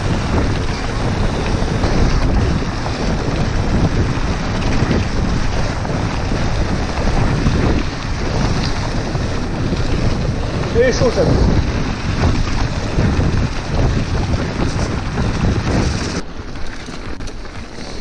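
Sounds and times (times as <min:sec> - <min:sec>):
tyres rolling over gravel: 0:00.0 - 0:18.0
wind buffeting microphone: 0:00.0 - 0:18.0.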